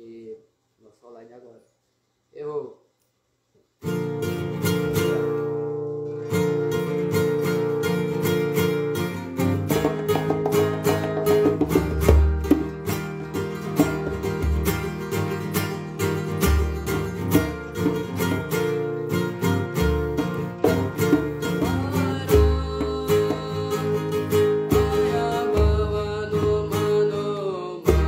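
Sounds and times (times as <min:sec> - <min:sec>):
acoustic guitar strummed: 0:03.8 - 0:28.0.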